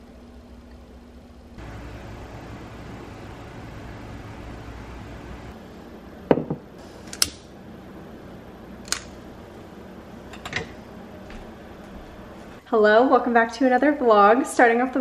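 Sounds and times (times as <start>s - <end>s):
faint steady hiss: 0.0s - 12.7s.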